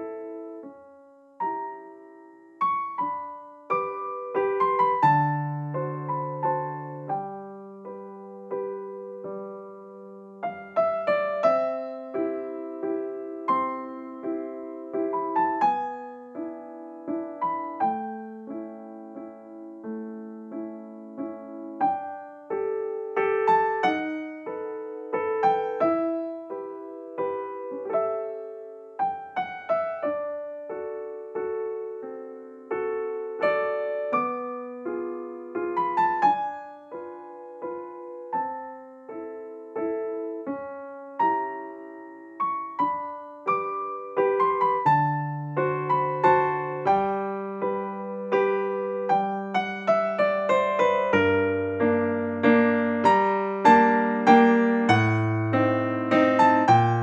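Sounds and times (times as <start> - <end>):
gentle piano melody: 0.0 - 57.0.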